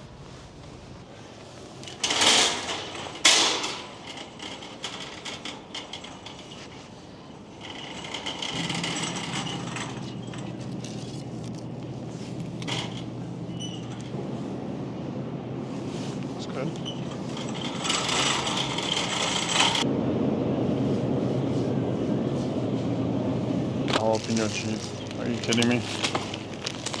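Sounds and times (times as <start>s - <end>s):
steady low hum: 4.0s - 26.8s.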